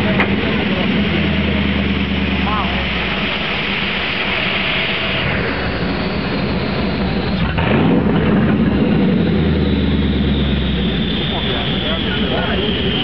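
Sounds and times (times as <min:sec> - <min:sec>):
car engine running on dynamometer: 0:00.0 - 0:13.0.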